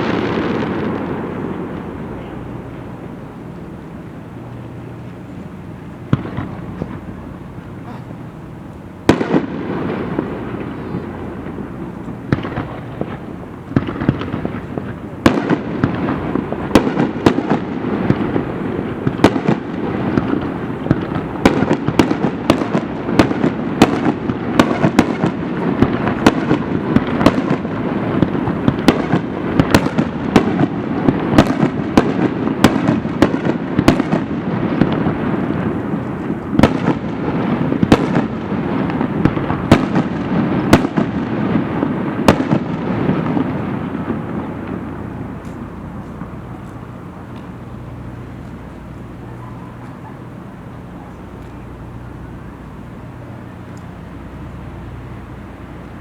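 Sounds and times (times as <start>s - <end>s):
fireworks bangs and crackles: 0.0s - 56.0s
steady rumble: 0.0s - 56.0s.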